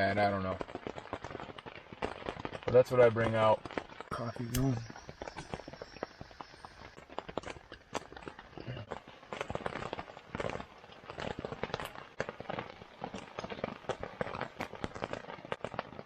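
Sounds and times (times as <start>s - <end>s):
rain pattering on a tent: 0.0s - 16.0s.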